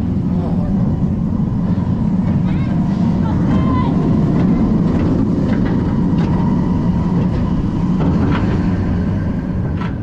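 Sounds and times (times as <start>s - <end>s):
coaster track clacks: 0.0s - 10.0s
roller coaster train rumbling: 0.0s - 10.0s.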